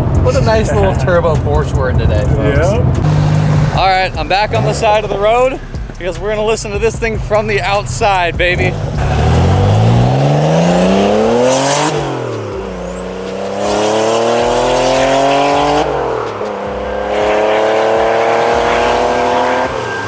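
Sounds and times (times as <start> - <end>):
car engine accelerating hard: 0.0 - 6.1, 6.8 - 20.0.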